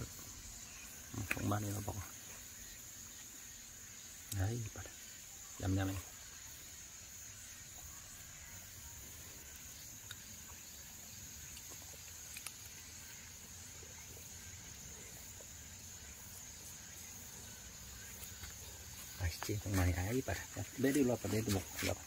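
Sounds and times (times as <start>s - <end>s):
high-pitched insect buzz: 0.0s - 22.0s.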